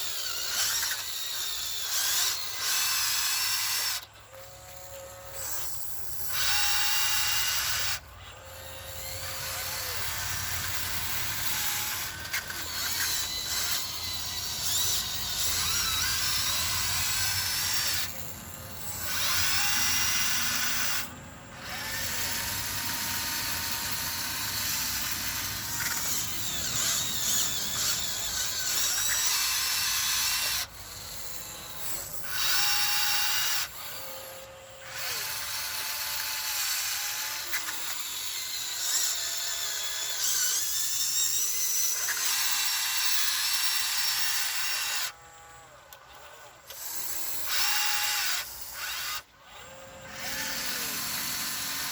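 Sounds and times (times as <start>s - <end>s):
electric motors whining: 0.0s - 51.9s.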